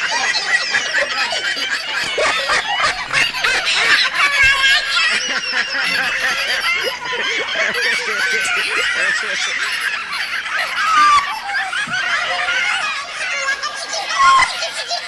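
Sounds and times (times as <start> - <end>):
cartoon voices laughing: 0.0 - 15.0.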